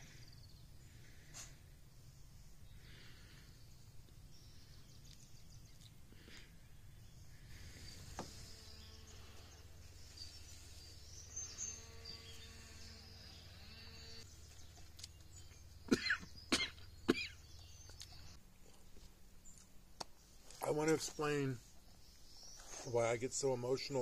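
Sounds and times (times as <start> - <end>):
low steady hum: 0.0 - 23.8.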